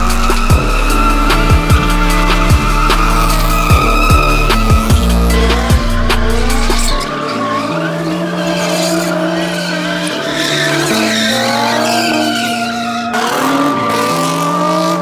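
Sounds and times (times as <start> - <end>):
car engine revving hard: 0.0 - 15.0
car tires squealing: 0.0 - 15.0.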